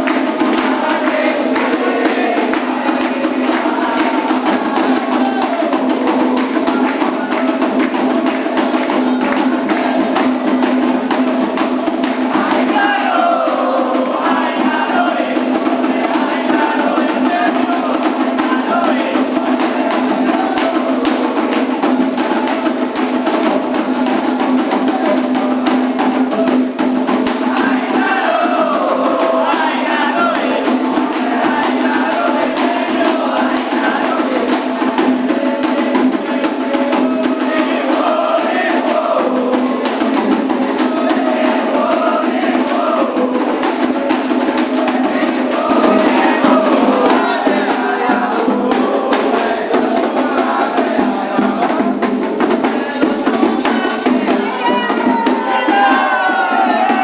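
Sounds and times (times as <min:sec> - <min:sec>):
chanted singing: 0:00.0 - 0:57.0
hand drums and percussion: 0:00.0 - 0:57.0.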